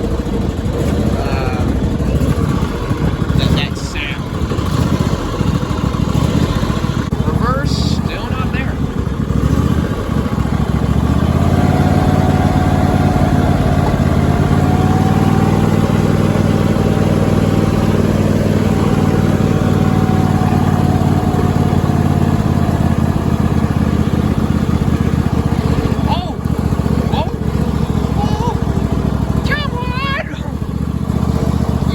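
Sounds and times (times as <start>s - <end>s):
lawn tractor engine running: 0.0s - 31.9s.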